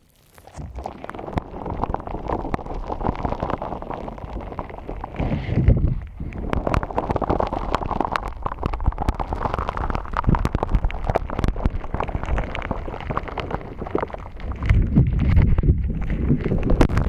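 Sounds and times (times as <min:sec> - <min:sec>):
slime squishing and crackling: 0:00.0 - 0:17.0.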